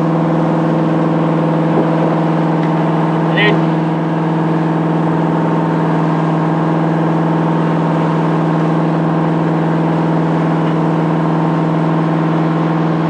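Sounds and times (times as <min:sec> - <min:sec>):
boat diesel engine droning: 0:00.0 - 0:13.0.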